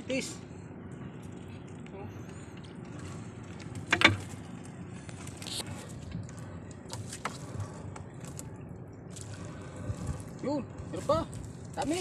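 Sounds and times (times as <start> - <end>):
wash of wind and water: 0.0 - 12.0.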